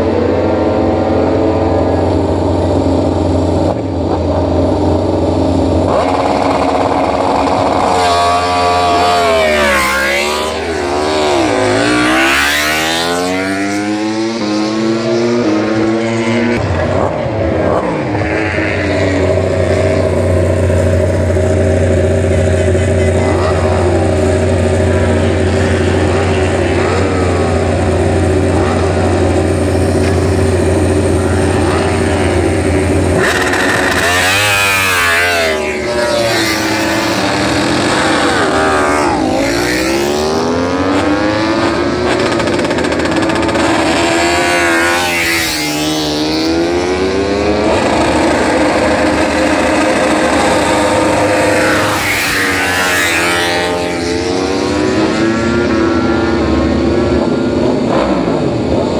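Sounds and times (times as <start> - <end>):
motorcycle engine at high revs: 0.0 - 58.9
motorcycles revving and launching: 0.0 - 58.9.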